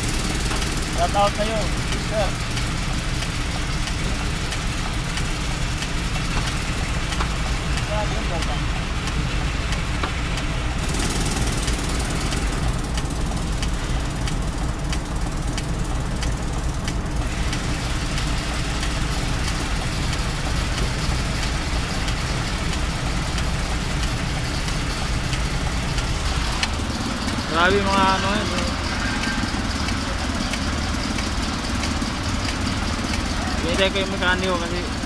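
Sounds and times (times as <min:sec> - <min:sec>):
diesel engine idling: 0:00.0 - 0:35.0
faint regular ticking: 0:00.0 - 0:35.0.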